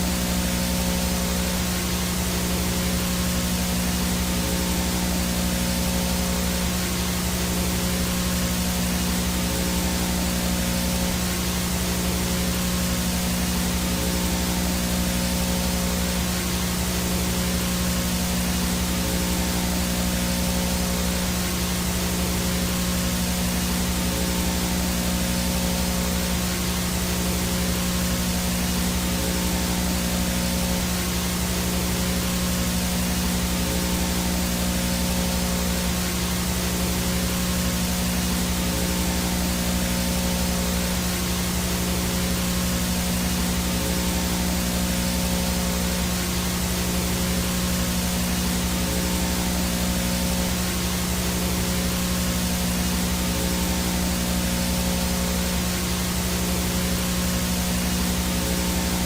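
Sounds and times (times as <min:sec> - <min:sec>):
low buzzing hum: 0:00.0 - 0:59.0
static hiss: 0:00.0 - 0:59.0
thin high whine: 0:00.0 - 0:59.0.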